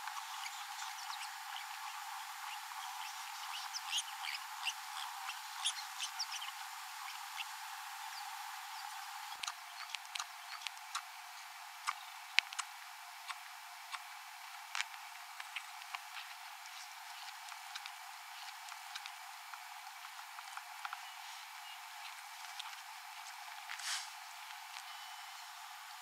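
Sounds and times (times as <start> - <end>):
small birds chirping: 0.0 - 23.7
steady hiss: 0.0 - 26.0.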